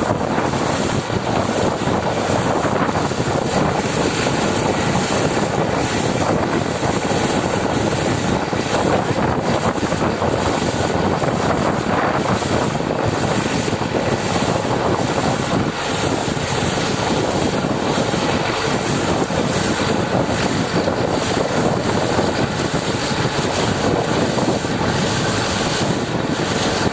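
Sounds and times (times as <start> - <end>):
air compressor running: 0.0 - 26.9
drilling rig running: 0.0 - 26.9.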